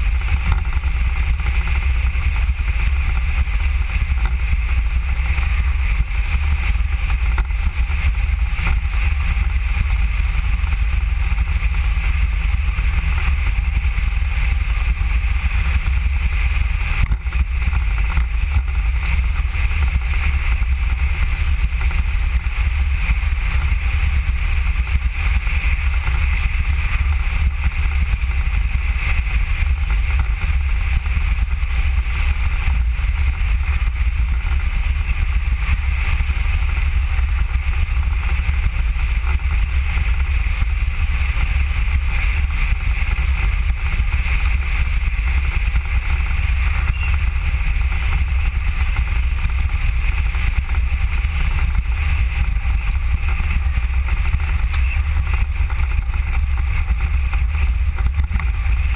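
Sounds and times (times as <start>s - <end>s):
velomobile rolling rumble and hiss: 0.0s - 58.9s.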